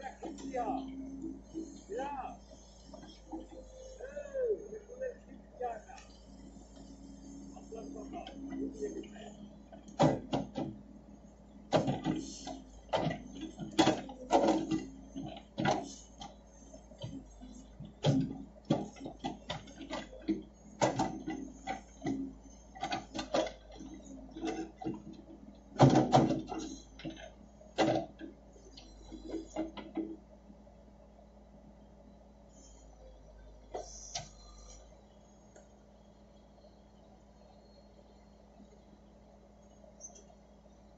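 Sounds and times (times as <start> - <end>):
faint engine hum: 0.0 - 40.9.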